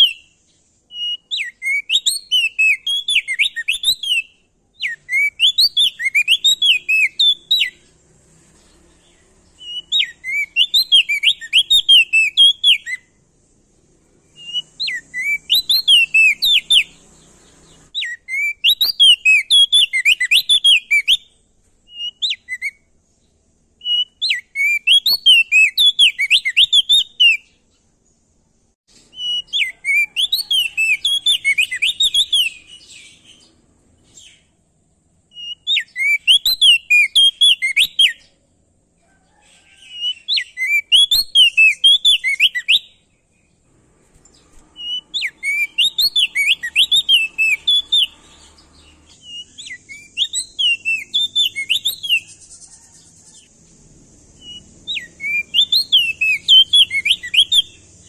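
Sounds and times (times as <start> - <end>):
bird singing fluttering whistles: 0.0 - 8.0, 9.5 - 13.2, 14.2 - 22.9, 23.8 - 27.6, 29.1 - 33.5, 35.3 - 38.3, 39.8 - 43.1, 44.2 - 53.5, 54.3 - 58.0.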